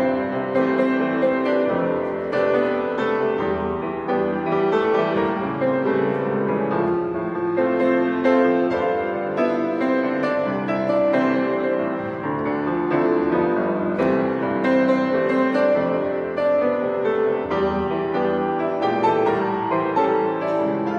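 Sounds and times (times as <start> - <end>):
grand piano playing: 0.0 - 20.9.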